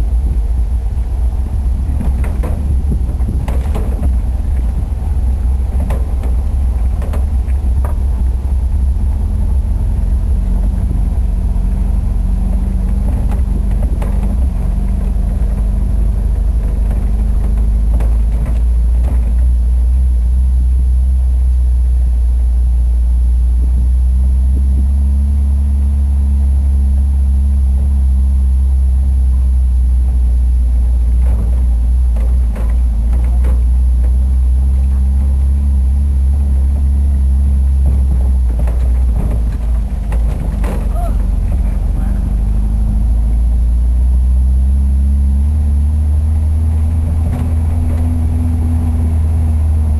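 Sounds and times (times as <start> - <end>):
knocks and rattles: 0.0 - 21.4, 23.6 - 49.9
bus engine rumbling under load: 0.0 - 49.9.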